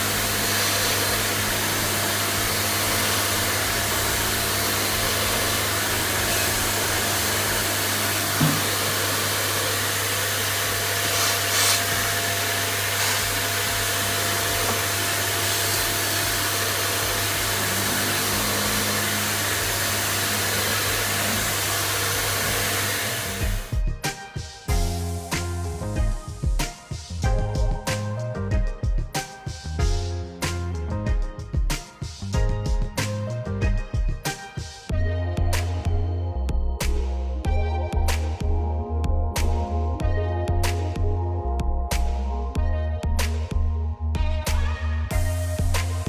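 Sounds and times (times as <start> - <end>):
electric cleaning appliance whooshing: 0.0 - 35.7, 44.5 - 46.0
music: 0.0 - 46.0.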